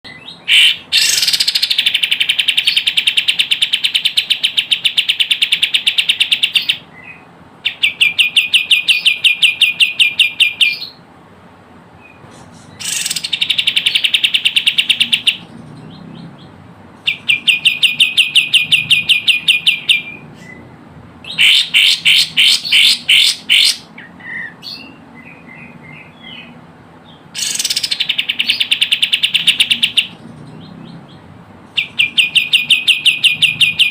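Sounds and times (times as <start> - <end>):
bird calling in rapid sharp bursts: 0.1 - 11.1, 12.0 - 33.9.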